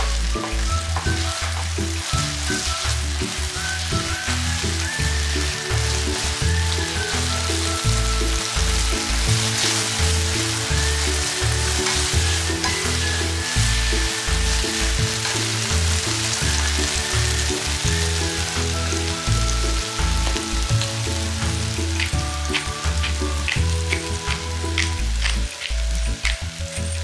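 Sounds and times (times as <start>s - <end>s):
background music: 0.0s - 27.0s
spaghetti sizzling in frying pan: 0.0s - 27.0s.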